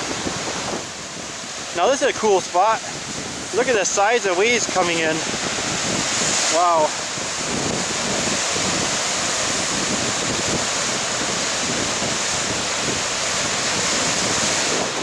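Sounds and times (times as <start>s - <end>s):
surf washing against shore: 0.0s - 15.0s
wind buffeting microphone: 0.0s - 15.0s.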